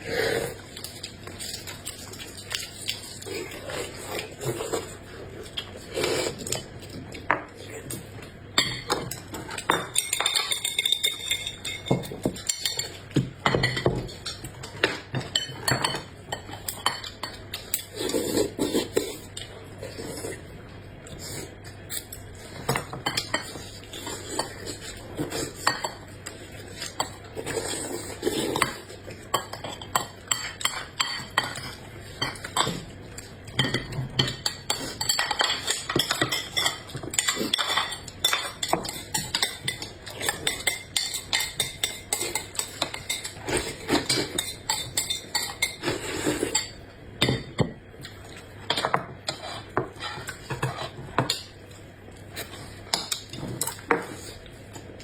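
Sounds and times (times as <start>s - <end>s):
utensils clinking against dishes: 0.1s - 55.0s.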